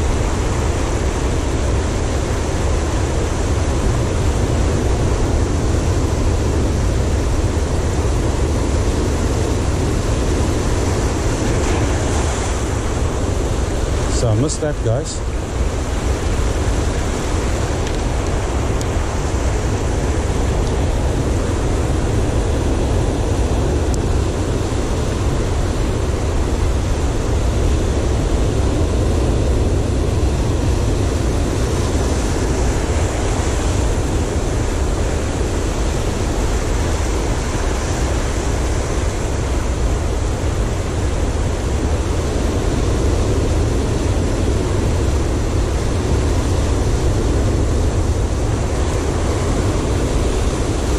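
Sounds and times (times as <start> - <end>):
surf breaking on rocky shore: 0.0 - 50.9.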